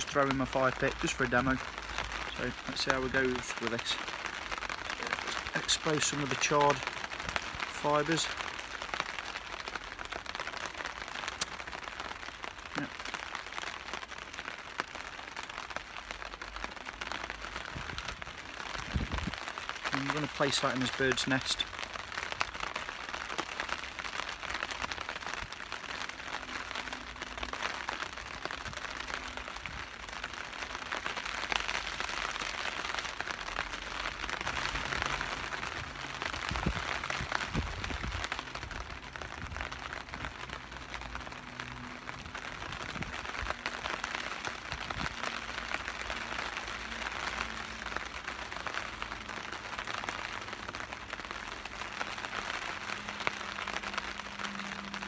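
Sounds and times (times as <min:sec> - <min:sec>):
rain on a tarp: 0:00.0 - 0:55.0.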